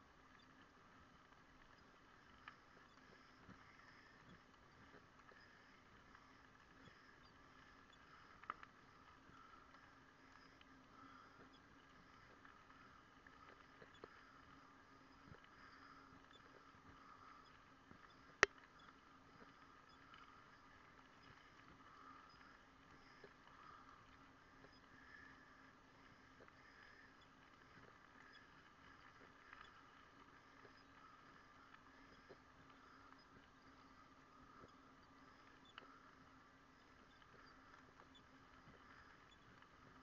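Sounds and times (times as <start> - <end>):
faint steady hum: 0.0 - 40.0
small ticks: 0.0 - 40.0.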